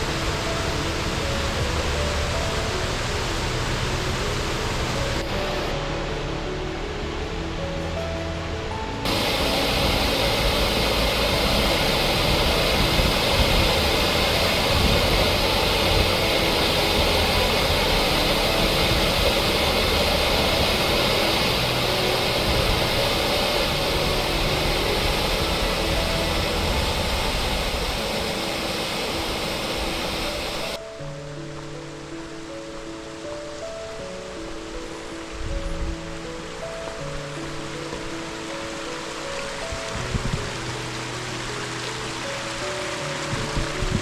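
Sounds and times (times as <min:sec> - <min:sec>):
waterfall roaring: 0:00.0 - 0:31.0, 0:31.9 - 0:44.0
faint music: 0:00.0 - 0:44.0.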